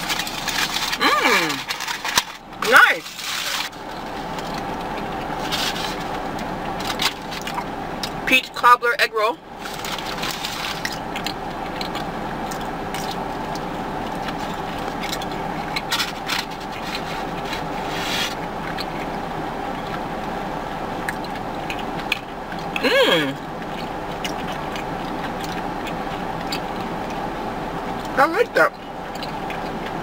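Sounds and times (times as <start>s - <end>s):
biting and chewing: 0.0s - 8.3s, 9.4s - 30.0s
steady car hum: 0.0s - 30.0s.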